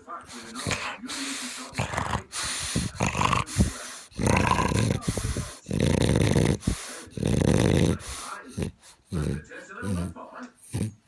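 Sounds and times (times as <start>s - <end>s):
dog snoring: 0.0s - 11.0s.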